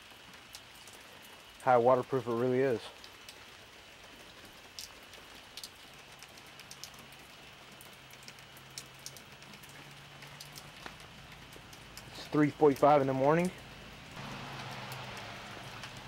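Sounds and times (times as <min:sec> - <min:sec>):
faint rain: 0:00.0 - 0:16.0
raindrops ticking: 0:00.0 - 0:16.0.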